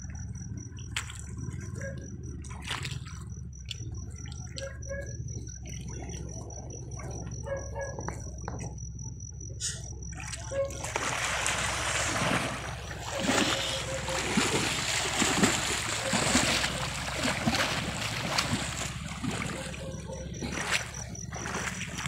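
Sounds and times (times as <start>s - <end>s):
water splashing from wading: 0.0s - 8.6s, 9.8s - 22.0s.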